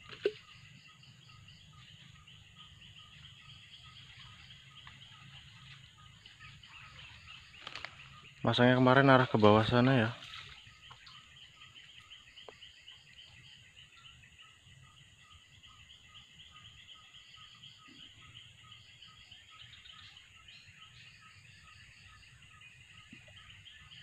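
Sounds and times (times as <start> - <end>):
insects buzzing: 0.0 - 24.0.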